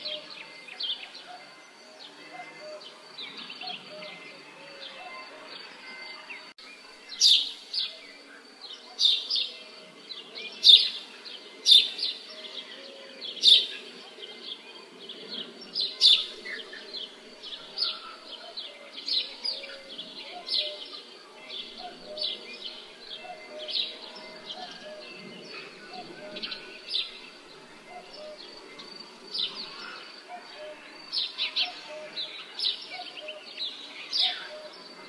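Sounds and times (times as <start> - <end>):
soft steady background sound: 0.0 - 35.0.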